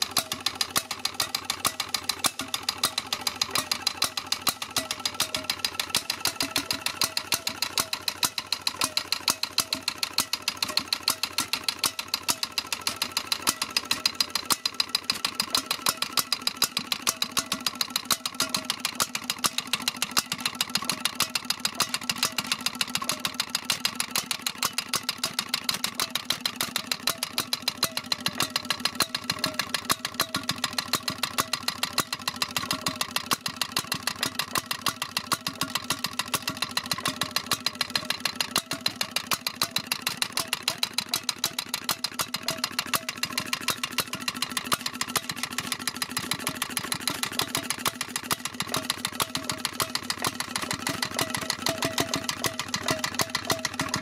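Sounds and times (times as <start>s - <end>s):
stationary engine running: 0.0s - 54.0s.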